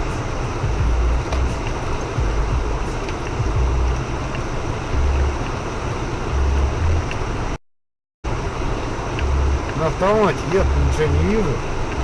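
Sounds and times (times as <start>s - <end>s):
car interior driving noise: 0.0s - 7.6s, 8.3s - 12.0s
low rumbles: 0.0s - 7.6s, 8.3s - 12.0s.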